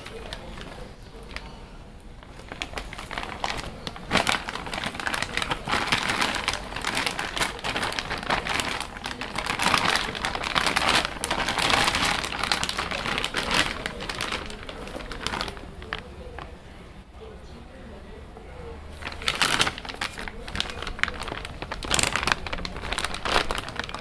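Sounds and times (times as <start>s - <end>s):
plastic bag crinkling: 0.0s - 16.6s, 18.9s - 24.0s.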